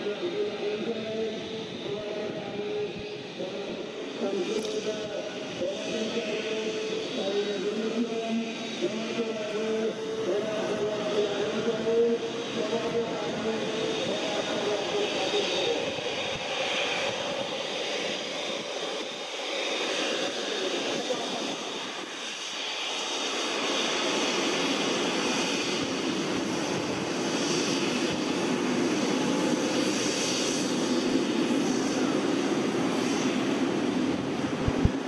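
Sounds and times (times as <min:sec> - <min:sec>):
jet engines running: 0:00.0 - 0:35.0.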